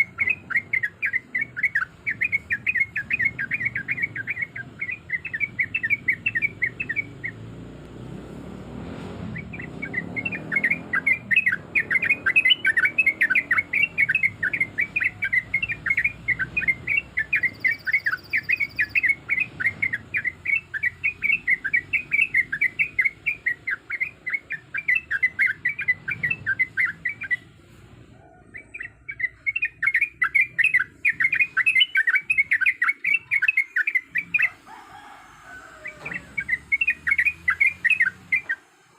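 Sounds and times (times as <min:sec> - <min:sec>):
bulbul chattering song: 0:00.0 - 0:07.8, 0:09.2 - 0:38.9.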